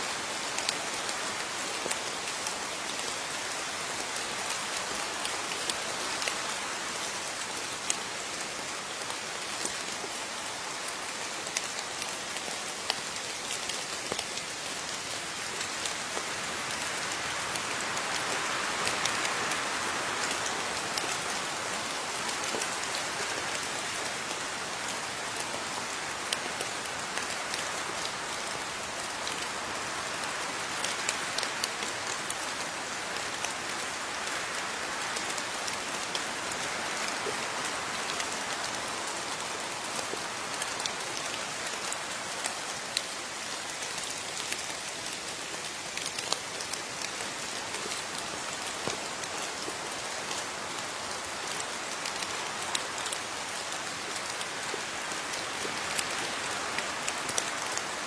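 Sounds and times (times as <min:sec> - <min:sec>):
steady rain with drops ticking: 0:00.0 - 0:58.0.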